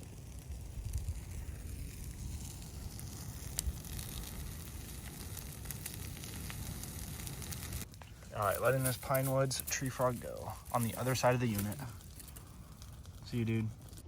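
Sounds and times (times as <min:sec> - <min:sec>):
low fire rumble: 0:00.0 - 0:14.0
vegetation crackling in fire: 0:00.0 - 0:14.0.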